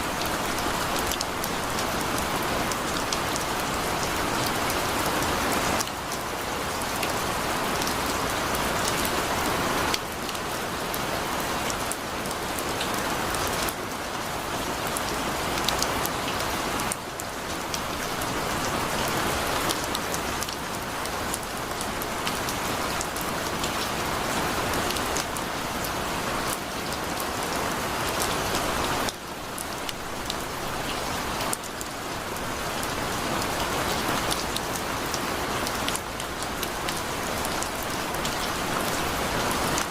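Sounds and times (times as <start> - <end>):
heavy rain pouring: 0.0 - 39.9
raindrops ticking on a surface: 0.0 - 39.9.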